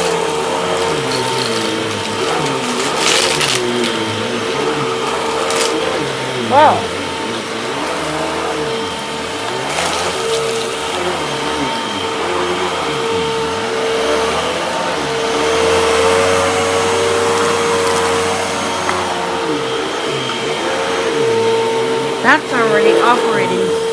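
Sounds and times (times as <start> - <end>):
vacuum cleaner motor whine: 0.0 - 23.9.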